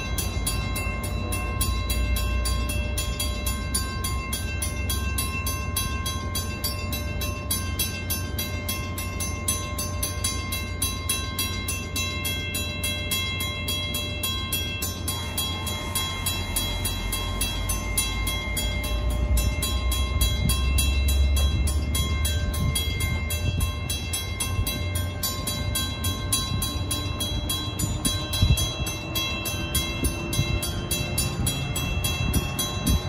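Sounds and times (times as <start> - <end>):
crossing bell ringing: 0.0 - 33.0
train wheels rumbling on rails: 0.0 - 33.0
train whine rising: 0.0 - 33.0.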